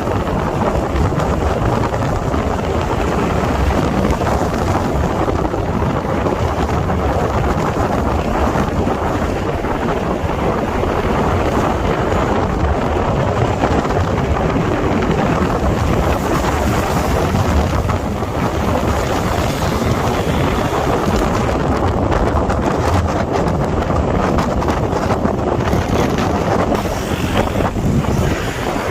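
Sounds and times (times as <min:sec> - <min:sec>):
car rumble and road noise: 0:00.0 - 0:28.9
wind buffeting microphone: 0:00.0 - 0:28.9.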